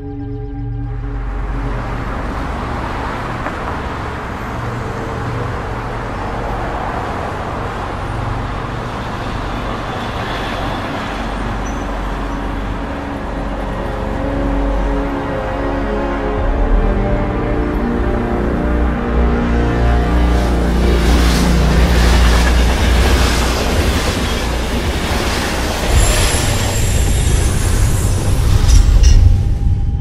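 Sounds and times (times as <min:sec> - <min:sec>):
traffic roar: 0:00.8 - 0:30.0.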